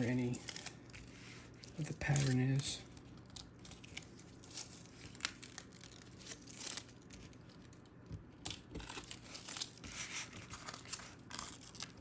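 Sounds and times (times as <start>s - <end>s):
plastic sheet crinkling: 0.0s - 12.0s.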